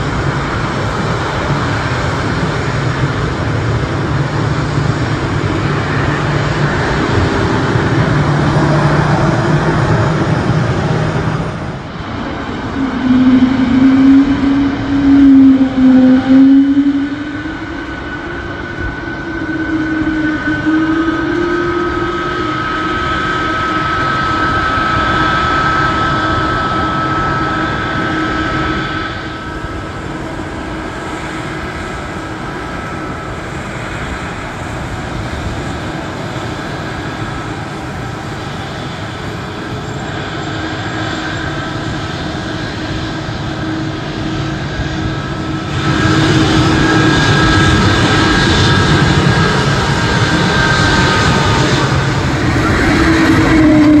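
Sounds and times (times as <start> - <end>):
jet engines humming: 0.0 - 54.0.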